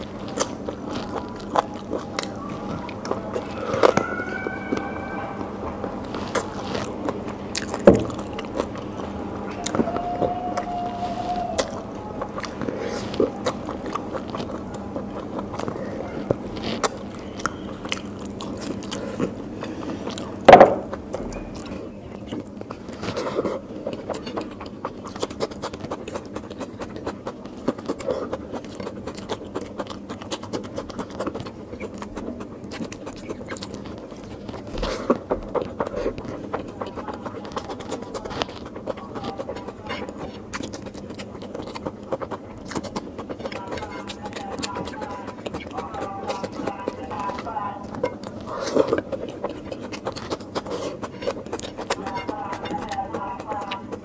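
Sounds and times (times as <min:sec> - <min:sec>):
wet chewing and mouth clicks: 0:00.0 - 0:54.0.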